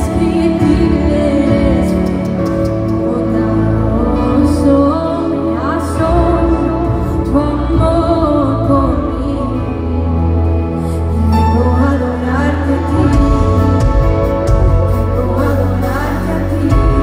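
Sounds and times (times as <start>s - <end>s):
person singing: 0.0s - 17.0s
worship band playing: 0.0s - 17.0s.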